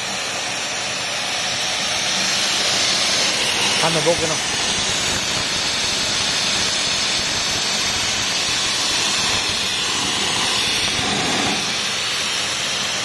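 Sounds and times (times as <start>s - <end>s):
air rushing from blower pipe: 0.0s - 13.0s.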